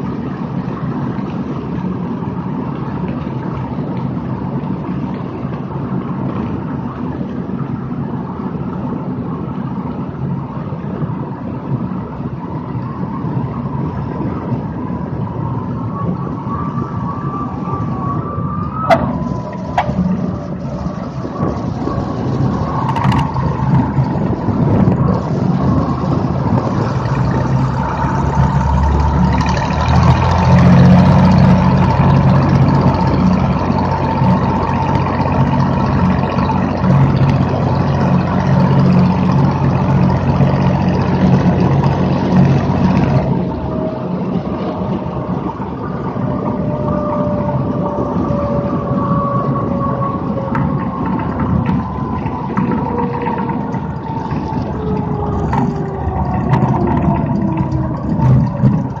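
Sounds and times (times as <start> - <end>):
propeller plane engine running: 0.0 - 59.0.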